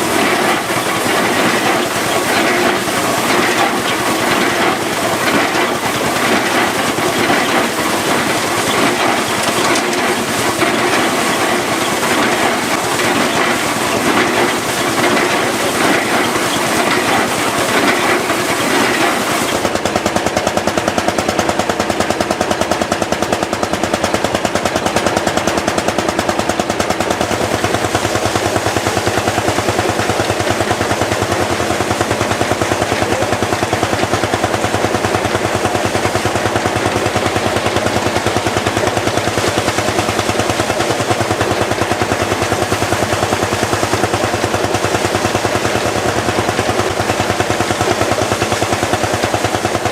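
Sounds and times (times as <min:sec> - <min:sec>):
threshing machinery clatter: 0:00.0 - 0:49.9
tractor engine exhaust beat: 0:00.0 - 0:49.9.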